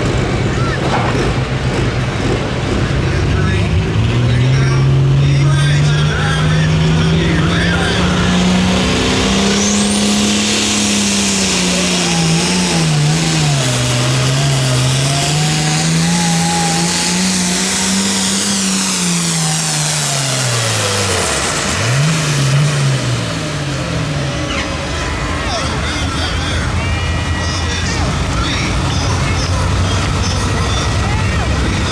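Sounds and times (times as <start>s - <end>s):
vehicle engine at full power: 0.0s - 31.9s.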